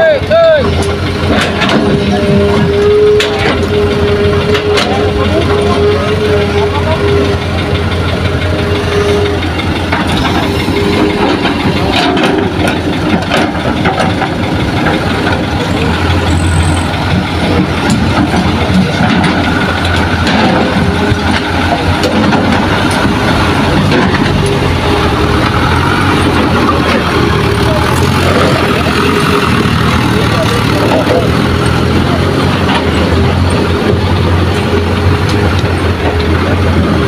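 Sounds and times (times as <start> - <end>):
diesel engines running: 0.0 - 37.0
truck driving past: 0.7 - 37.0.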